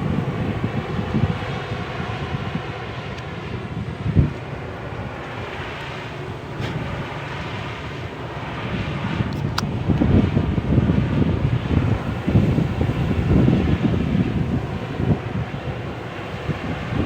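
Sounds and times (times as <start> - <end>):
combine harvester diesel engine rumbling: 0.0 - 17.0.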